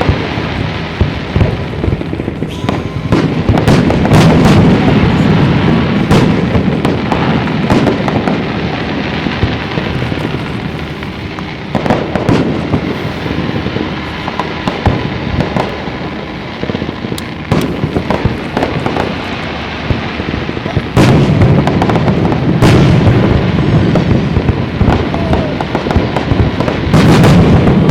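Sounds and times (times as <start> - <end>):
fireworks bangs and crackles: 0.0 - 27.9.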